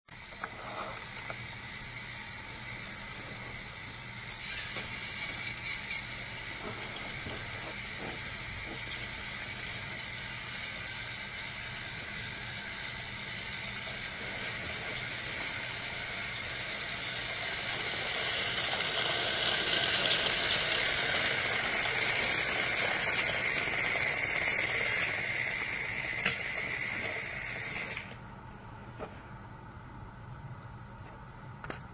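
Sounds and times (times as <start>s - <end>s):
toy train motor whine: 0.2s - 28.2s.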